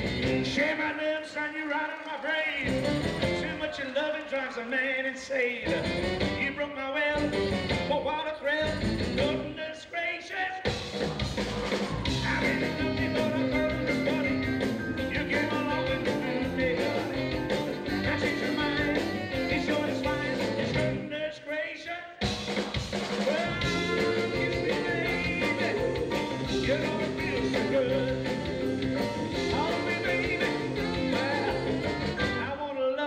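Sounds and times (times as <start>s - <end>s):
rock and roll band playing: 0.0s - 33.0s
man singing into microphone: 0.3s - 10.7s, 12.1s - 22.2s, 23.2s - 33.0s.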